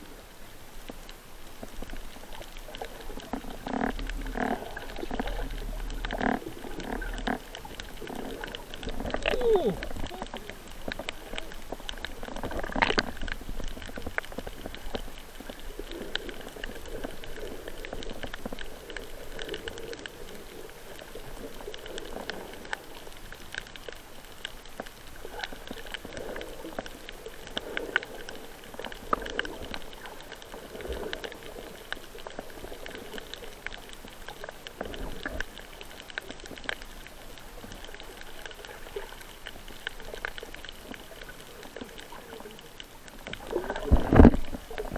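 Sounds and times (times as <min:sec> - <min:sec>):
muffled underwater wash: 0:00.0 - 0:44.9
small crackling clicks: 0:00.0 - 0:44.9
swells of water movement: 0:00.0 - 0:44.9.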